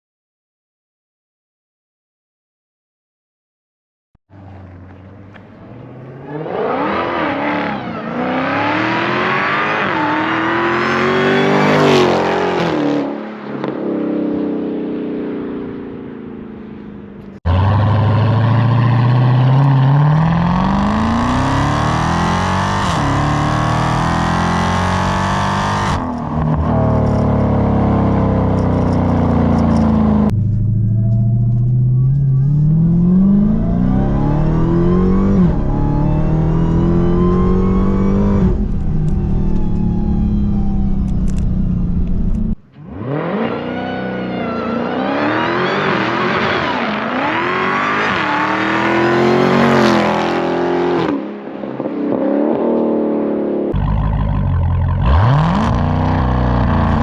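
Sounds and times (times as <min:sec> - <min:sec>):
car engine at full throttle: 0:04.3 - 0:57.0.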